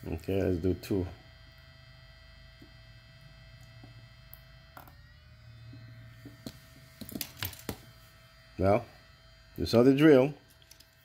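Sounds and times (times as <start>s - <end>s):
electrical hum with high whine: 0.0s - 11.0s.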